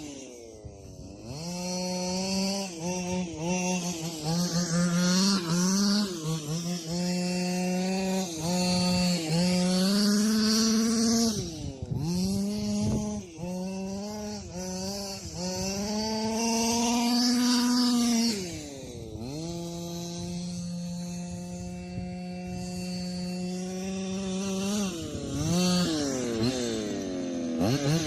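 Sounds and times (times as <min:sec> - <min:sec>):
two-stroke engine revving: 0:00.0 - 0:28.0.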